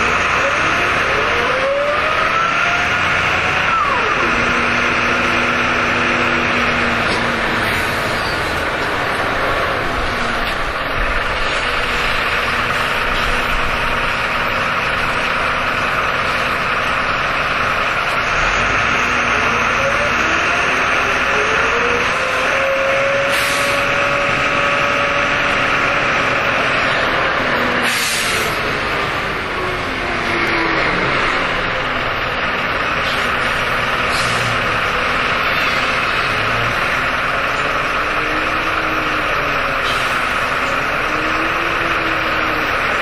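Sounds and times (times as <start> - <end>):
bus engine accelerating: 0.0 - 43.0
road noise: 0.0 - 43.0.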